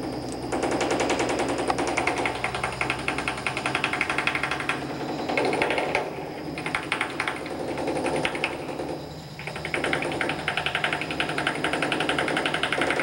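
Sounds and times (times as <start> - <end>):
truck engine idling: 0.0 - 12.8
pneumatic chipping hammer rattling: 0.0 - 13.0.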